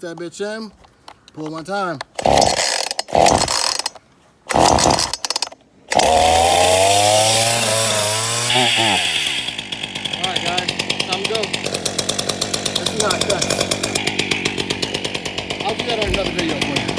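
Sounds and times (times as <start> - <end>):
chainsaw starter cord pulls: 0.8 - 16.9
chainsaw engine running: 2.1 - 16.9.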